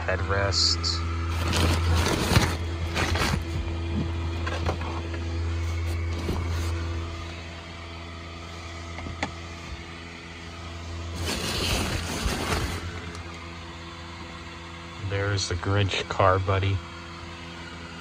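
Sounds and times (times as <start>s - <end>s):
blower fan humming: 0.0s - 18.0s.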